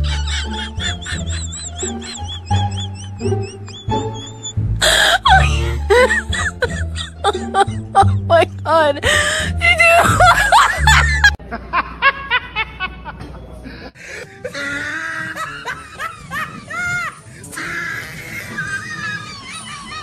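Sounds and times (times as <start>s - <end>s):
laughter in bursts: 0.0s - 8.3s, 10.0s - 20.0s
background music: 0.0s - 11.4s, 14.0s - 20.0s.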